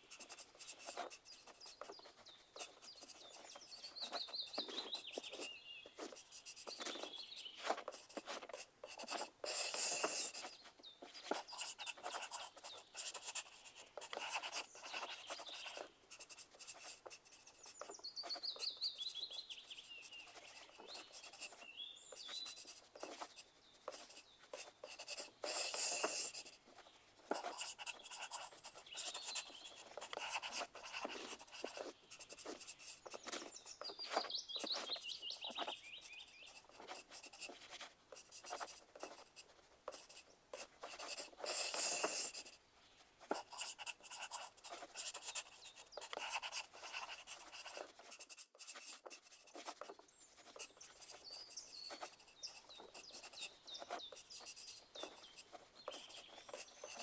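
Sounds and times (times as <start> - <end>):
pencil writing on paper: 0.0 - 42.6, 43.2 - 57.0.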